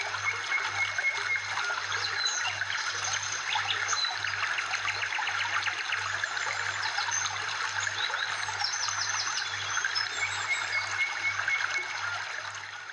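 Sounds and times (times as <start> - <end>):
flowing water: 0.0 - 12.9.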